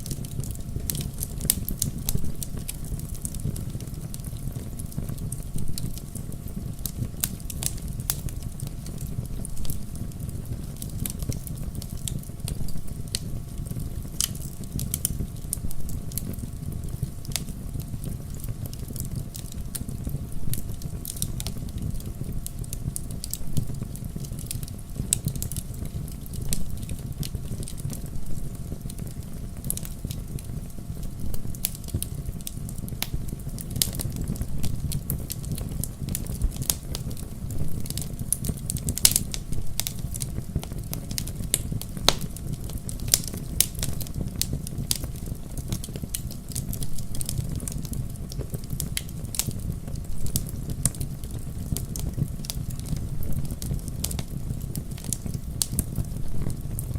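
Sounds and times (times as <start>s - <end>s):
fire crackling and popping: 0.0s - 56.9s
low rumble of flames: 0.0s - 56.9s.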